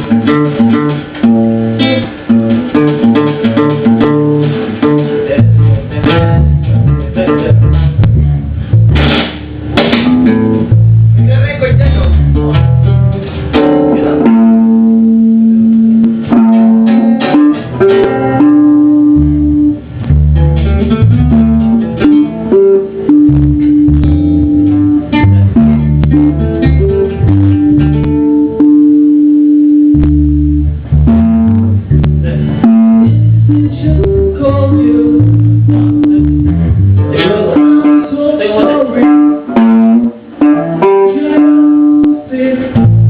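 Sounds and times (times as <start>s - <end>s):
moving bass line: 0.0s - 43.0s
plucked guitar notes: 0.0s - 43.0s.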